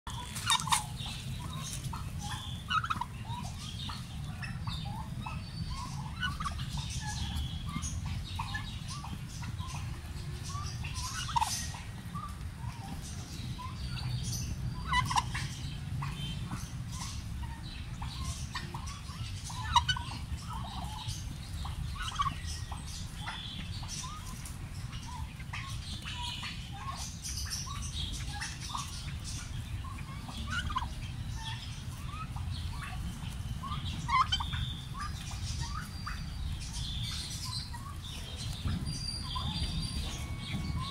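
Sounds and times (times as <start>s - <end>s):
steady low rumble: 0.1s - 40.9s
turkeys calling: 0.1s - 40.9s.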